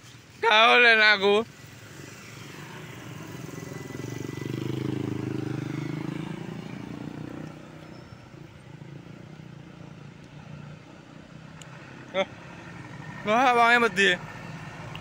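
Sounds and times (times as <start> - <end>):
faint traffic engine noise: 0.0 - 15.0
vehicle engine passing: 1.6 - 15.0.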